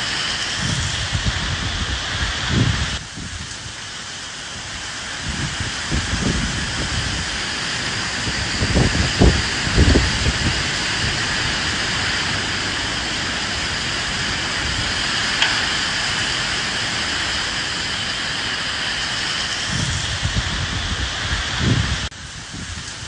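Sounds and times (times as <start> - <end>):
steady rain falling: 0.0 - 23.0
wind gusts: 0.0 - 23.0.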